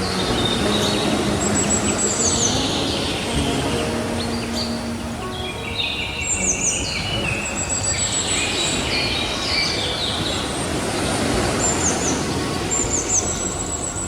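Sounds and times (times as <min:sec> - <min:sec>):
sea waves washing on beach: 0:00.0 - 0:14.0
songbirds chirping: 0:00.0 - 0:14.0.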